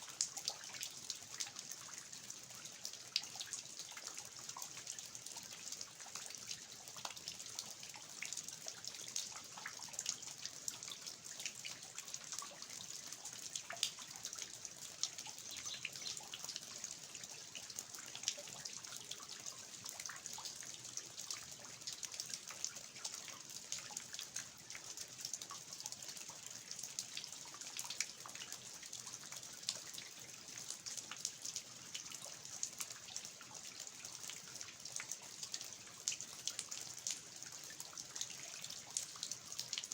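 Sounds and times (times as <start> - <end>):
water dripping from eaves: 0.0 - 39.9.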